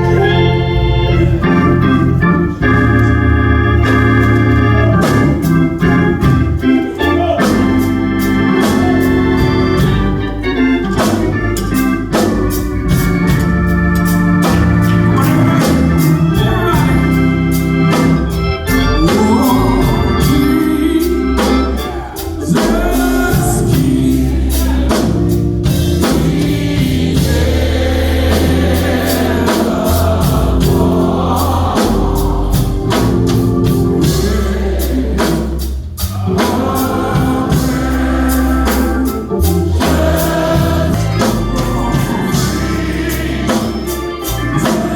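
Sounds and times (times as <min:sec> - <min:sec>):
organ playing sustained chords: 0:00.0 - 0:44.9
voices singing: 0:00.0 - 0:44.9.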